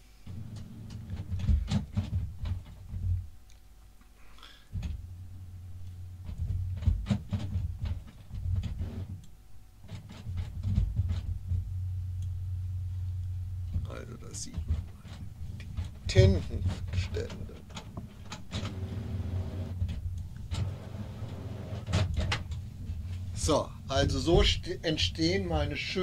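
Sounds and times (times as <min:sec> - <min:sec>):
printer motor hum: 0:00.2 - 0:03.3, 0:04.7 - 0:26.0.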